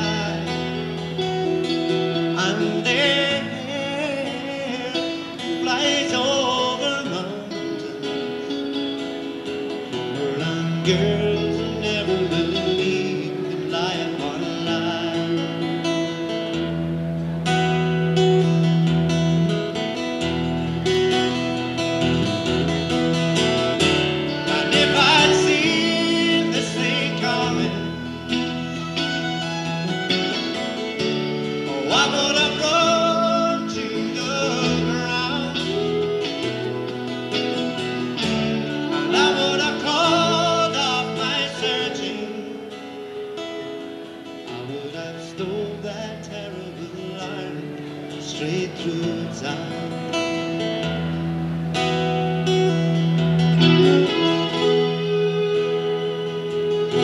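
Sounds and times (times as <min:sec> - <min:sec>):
man singing: 0:00.0 - 0:16.8, 0:23.6 - 0:29.4, 0:30.1 - 0:50.9, 0:53.6 - 0:57.0
acoustic guitar strumming: 0:00.0 - 0:57.0.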